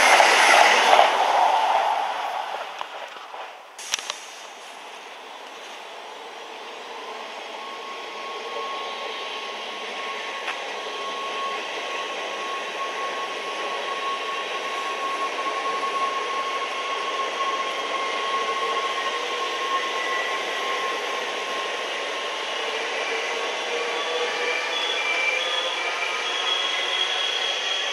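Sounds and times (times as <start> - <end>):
steady high whine: 0.0 - 27.9
train running noise: 0.0 - 27.9.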